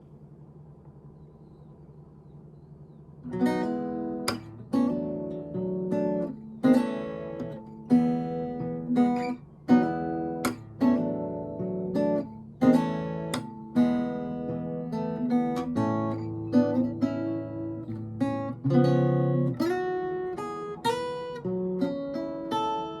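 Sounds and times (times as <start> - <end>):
fingerstyle acoustic guitar: 3.2 - 23.0.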